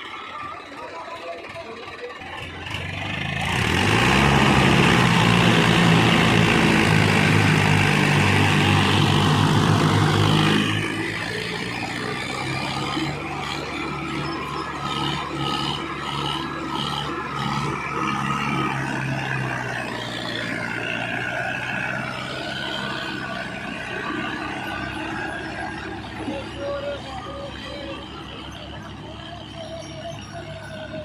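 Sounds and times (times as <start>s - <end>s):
diesel tractor engine revving: 0.0s - 31.0s.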